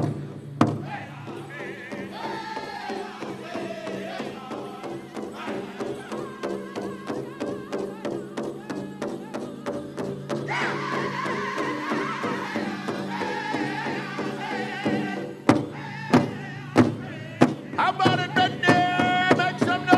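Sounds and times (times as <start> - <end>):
big drum beating: 0.0 - 19.9
high wavering voices singing: 0.8 - 19.9.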